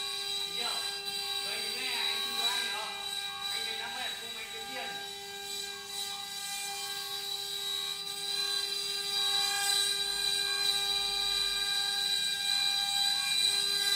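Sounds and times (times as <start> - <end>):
spindle whining: 0.0 - 13.9
wood cutting noise: 0.0 - 13.9.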